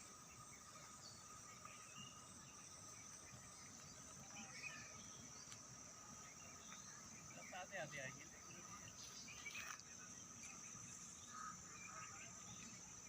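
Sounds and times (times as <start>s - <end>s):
faint bird chirps: 0.0s - 13.0s
insect chorus trilling: 0.0s - 13.0s.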